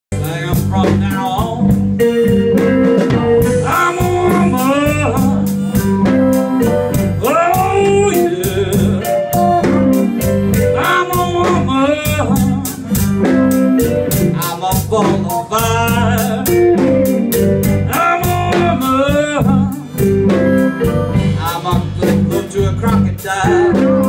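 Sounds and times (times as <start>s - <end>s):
blues band playing: 0.1s - 24.0s
person singing: 0.1s - 24.0s.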